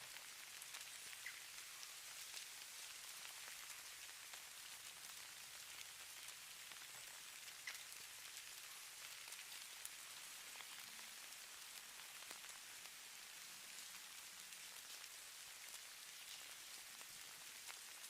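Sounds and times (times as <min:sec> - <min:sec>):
hiss of falling snow: 0:00.0 - 0:18.0.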